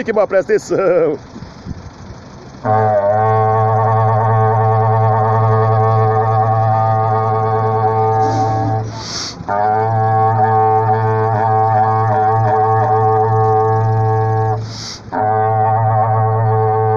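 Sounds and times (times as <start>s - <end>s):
horn blown in long low blasts: 1.9s - 16.9s.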